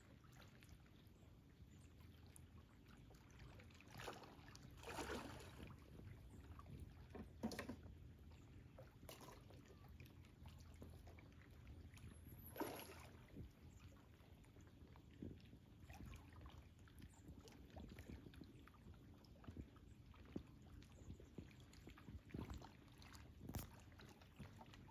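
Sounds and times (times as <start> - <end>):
soft water splashes: 0.0 - 24.9.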